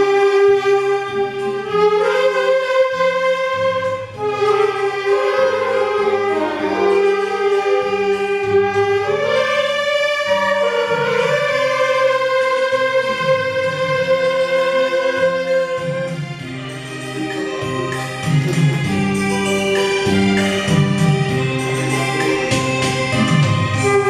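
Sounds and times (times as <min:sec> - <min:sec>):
saxophone ensemble playing: 0:00.0 - 0:24.0.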